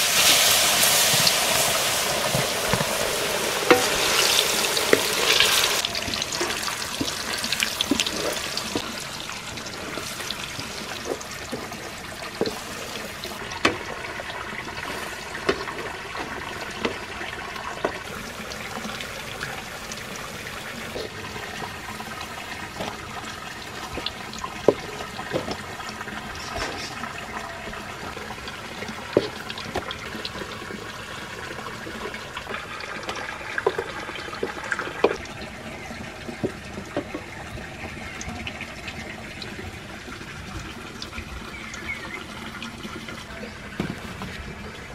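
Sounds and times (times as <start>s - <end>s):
banana slices sizzling in hot oil: 0.0s - 44.9s
oil popping and crackling: 0.0s - 44.9s.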